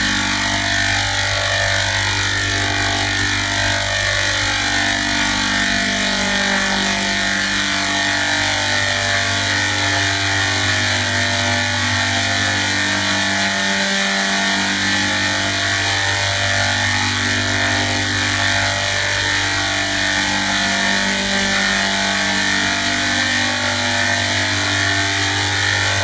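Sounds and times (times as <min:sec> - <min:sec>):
loud drone of held tones: 0:00.0 - 0:26.0.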